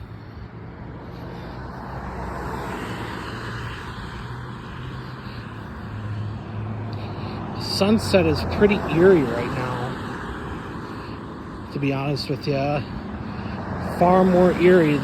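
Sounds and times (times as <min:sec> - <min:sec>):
motor vehicle passing: 0:00.0 - 0:15.0.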